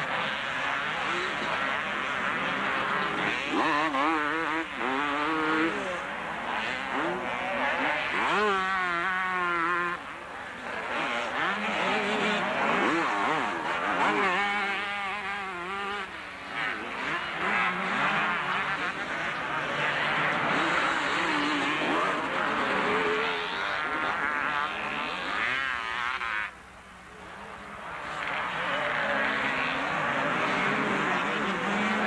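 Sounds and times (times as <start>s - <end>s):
motocross bikes racing: 0.0s - 32.0s.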